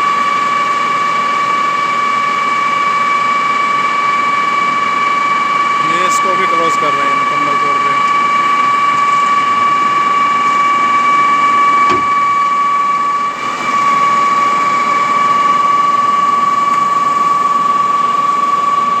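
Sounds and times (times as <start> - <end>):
hydraulic pump whine: 0.0 - 19.0.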